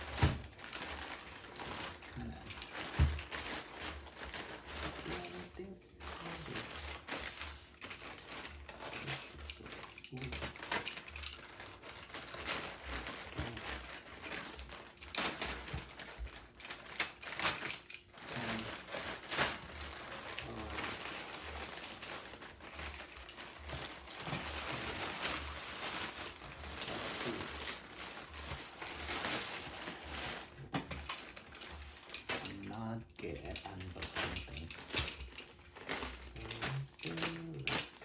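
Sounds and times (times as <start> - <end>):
packaging crinkling and rustling: 0.0 - 38.0.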